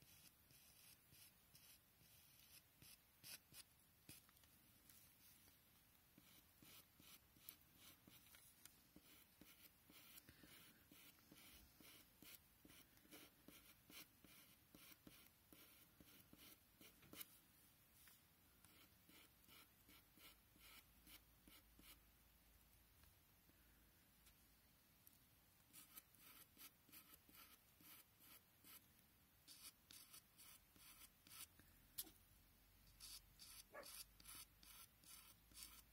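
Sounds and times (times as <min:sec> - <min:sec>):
pencil scratching on paper: 0:00.0 - 0:05.6, 0:06.2 - 0:17.4, 0:18.0 - 0:22.0, 0:25.7 - 0:32.2, 0:32.9 - 0:35.9.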